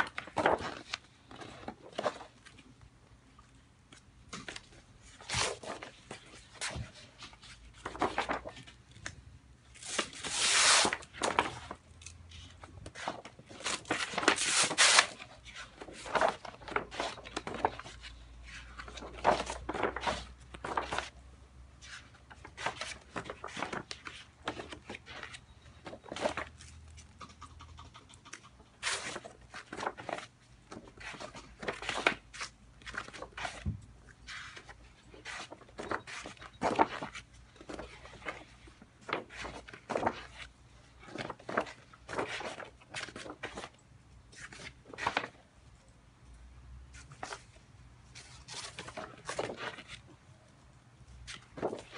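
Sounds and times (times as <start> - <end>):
heavy pages turning: 0.0 - 2.7, 3.9 - 9.1, 9.7 - 21.2, 21.8 - 27.0, 28.8 - 45.4, 48.2 - 50.0, 51.3 - 51.9.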